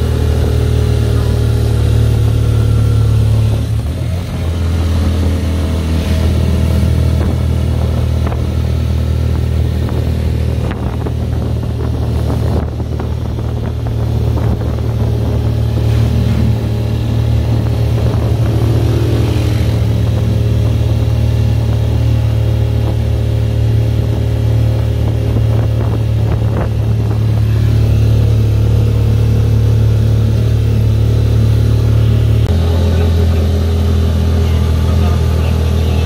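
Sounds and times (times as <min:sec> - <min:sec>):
motorcycle engine droning: 0:00.0 - 0:36.0.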